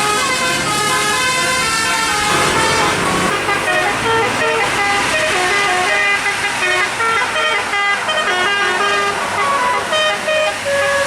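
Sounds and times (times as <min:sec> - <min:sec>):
musical air horn playing tune: 0:00.0 - 0:11.0.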